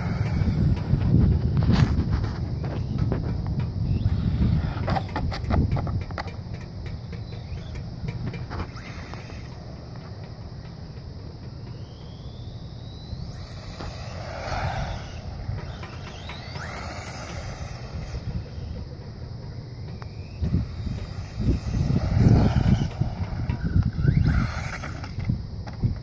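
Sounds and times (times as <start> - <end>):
electric motor whine rising: 0.0 - 5.4, 7.0 - 25.6.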